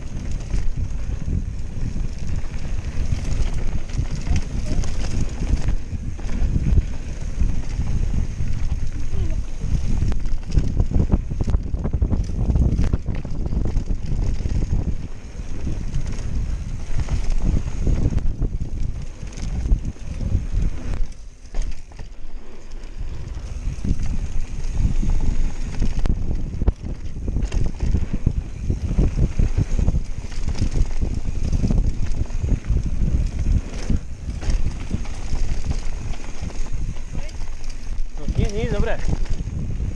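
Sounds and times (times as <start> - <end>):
mountain bike rumble and rattle: 0.0 - 39.9
wind buffeting microphone: 0.0 - 39.9.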